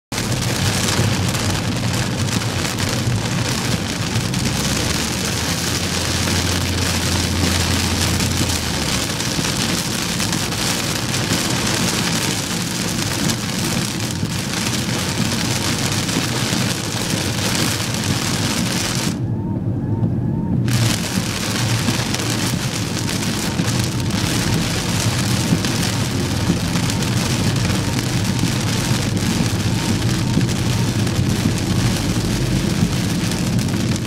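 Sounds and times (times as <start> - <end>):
heavy rain pelting a car: 0.1 - 19.3, 20.6 - 34.0.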